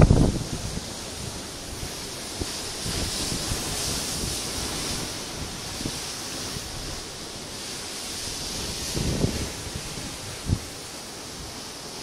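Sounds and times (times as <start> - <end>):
wind buffeting microphone: 0.0 - 11.6
ocean surf rushing: 0.0 - 12.0.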